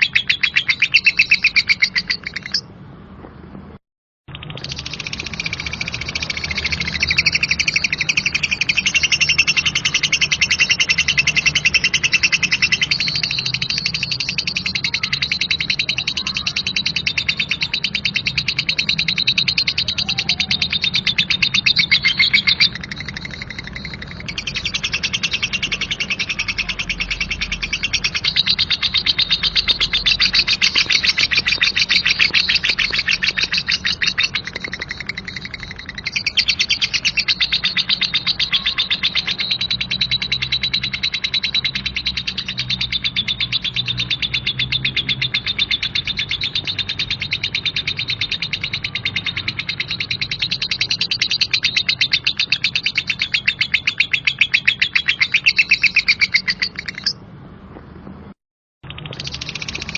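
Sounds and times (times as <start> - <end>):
lovebird chattering trill: 0.0 - 2.7, 4.3 - 57.2, 58.8 - 59.9.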